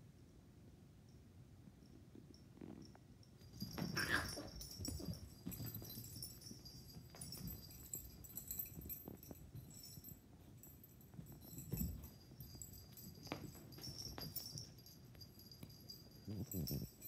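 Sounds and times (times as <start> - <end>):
collar tags jingling: 2.2 - 17.0.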